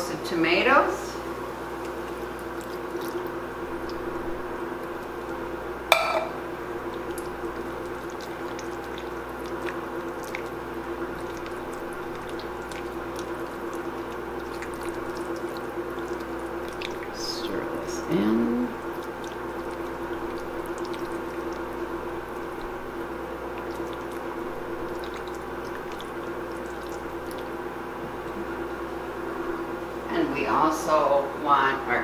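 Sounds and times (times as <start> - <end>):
steady hum: 1.0 - 32.0
spoon stirring wet mixture: 1.6 - 28.7.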